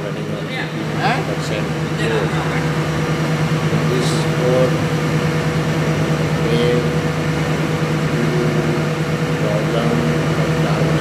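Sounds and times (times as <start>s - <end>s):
diesel generator droning: 0.0s - 11.0s.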